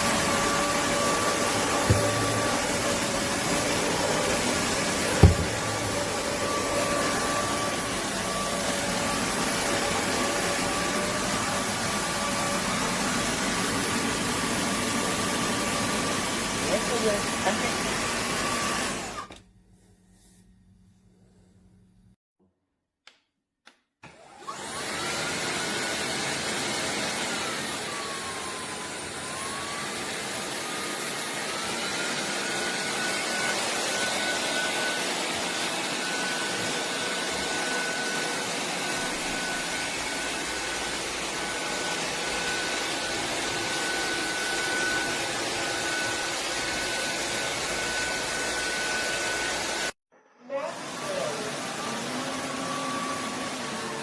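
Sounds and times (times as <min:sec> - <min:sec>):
vacuum motor whine: 0:00.0 - 0:19.3, 0:24.1 - 0:49.9, 0:50.7 - 0:54.0.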